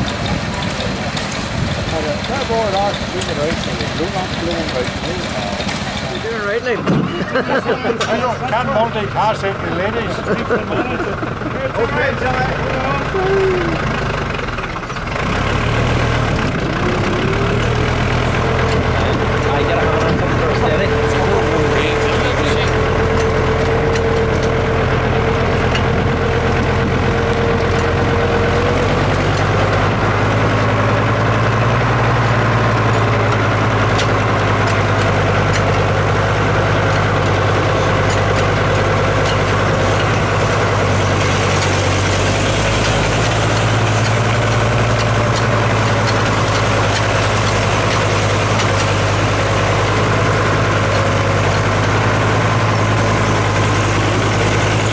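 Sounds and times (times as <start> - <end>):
heavy engine idling: 0.0 - 54.9.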